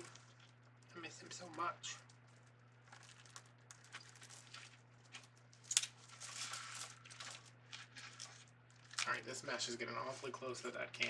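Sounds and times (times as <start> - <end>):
faint steady hum: 0.0 - 11.0
mesh rustling and crinkling: 0.0 - 11.0.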